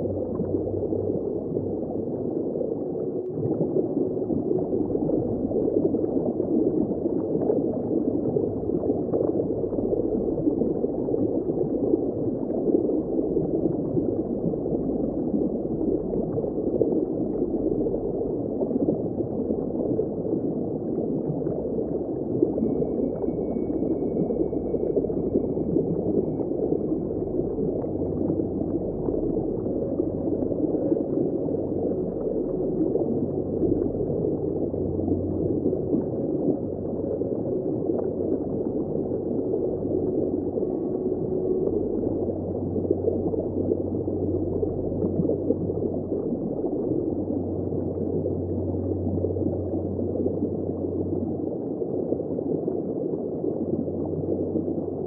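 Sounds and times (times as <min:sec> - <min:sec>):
muffled underwater rush of water: 0:00.0 - 0:55.0.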